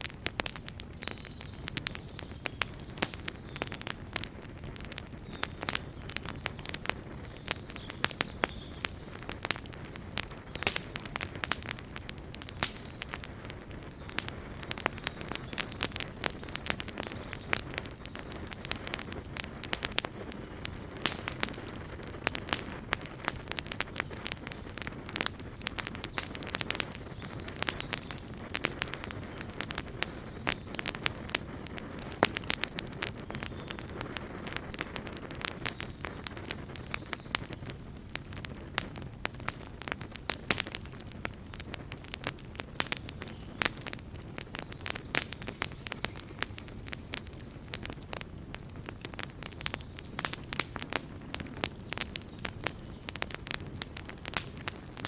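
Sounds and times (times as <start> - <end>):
campfire crackling and popping: 0.0 - 55.0
low rush of flame: 0.1 - 55.0.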